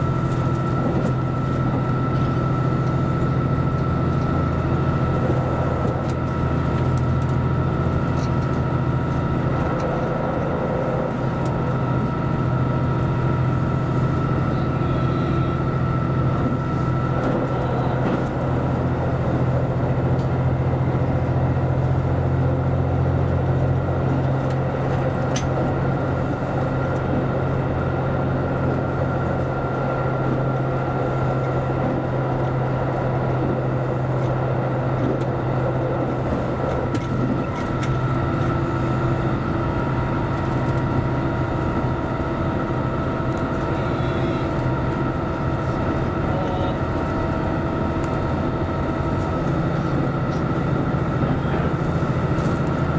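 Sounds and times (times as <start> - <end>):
diesel engine drone: 0.0 - 52.9
thin steady whine: 0.0 - 52.9
wheels rumbling on rails: 0.0 - 52.9.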